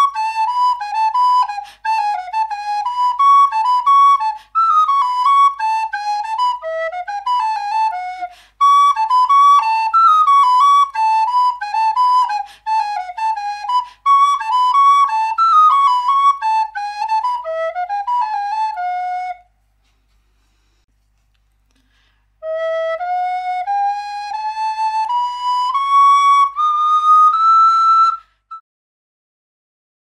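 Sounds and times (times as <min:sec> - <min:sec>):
wooden flute playing: 0:00.0 - 0:20.1, 0:22.4 - 0:28.6.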